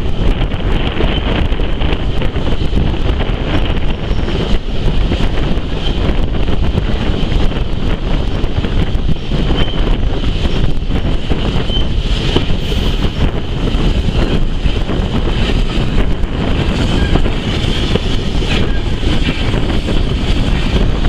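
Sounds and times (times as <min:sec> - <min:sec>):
train carriage rumbling on track: 0:00.0 - 0:21.0
wind buffeting microphone: 0:00.0 - 0:21.0.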